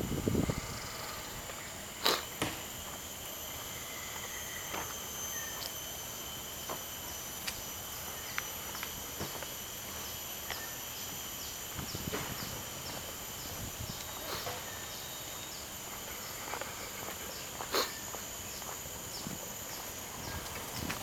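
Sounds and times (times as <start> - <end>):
insects chorus: 0.0 - 21.0
footsteps on paved path: 0.8 - 5.8, 6.5 - 21.0.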